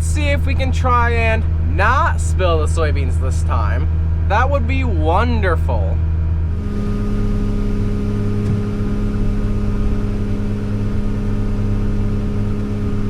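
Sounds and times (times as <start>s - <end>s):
diesel engine hum: 0.0s - 13.0s.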